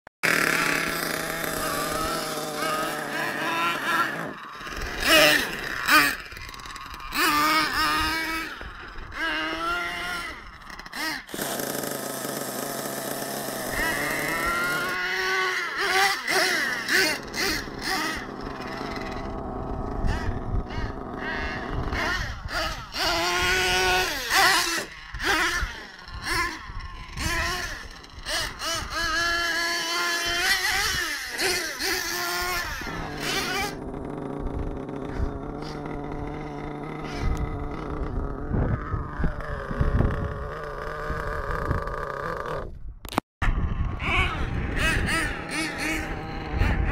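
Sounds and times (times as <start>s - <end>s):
model truck engines revving: 0.2s - 42.7s, 44.0s - 46.9s.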